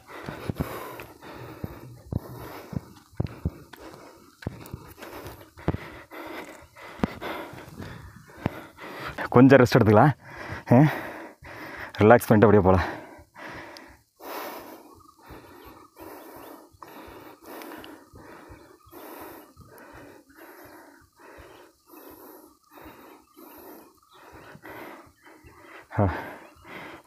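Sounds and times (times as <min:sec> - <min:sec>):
person breathing hard and fast: 0:00.0 - 0:12.0, 0:12.7 - 0:27.0.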